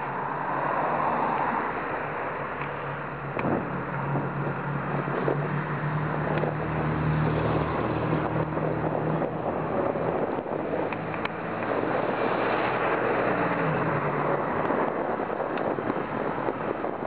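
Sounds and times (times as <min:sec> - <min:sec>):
road noise: 0:00.0 - 0:17.0
rushing wind: 0:00.0 - 0:17.0.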